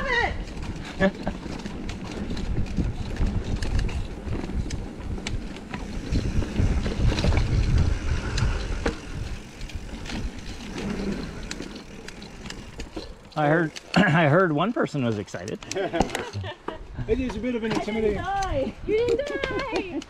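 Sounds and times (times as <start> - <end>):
mountain bike rumbling over roots: 0.0 - 16.4
bike clicks and rattles: 0.3 - 20.0.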